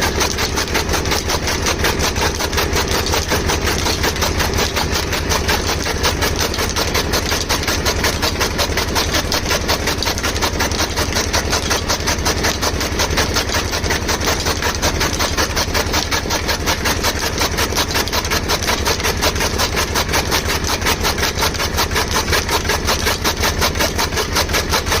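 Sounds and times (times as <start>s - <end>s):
chaff cutter chopping fodder: 0.0s - 25.0s.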